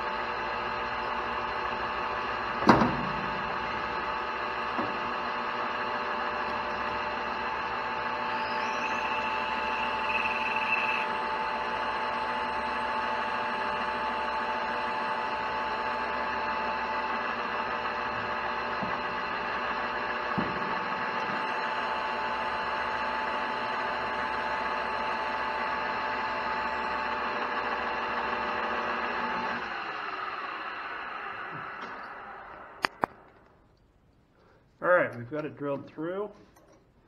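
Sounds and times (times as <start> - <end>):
metal lathe drilling brass: 0.0 - 2.6, 3.4 - 32.8.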